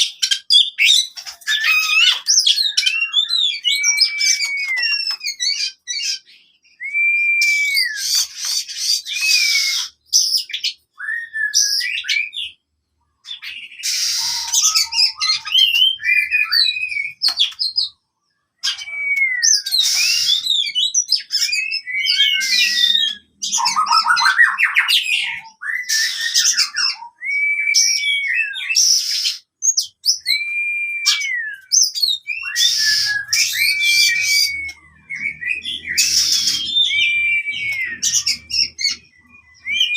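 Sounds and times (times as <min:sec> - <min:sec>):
bird singing whistled phrases: 0:00.0 - 0:12.6, 0:13.2 - 0:18.0, 0:18.6 - 0:39.9
harsh rasping bird calls: 0:07.4 - 0:39.9.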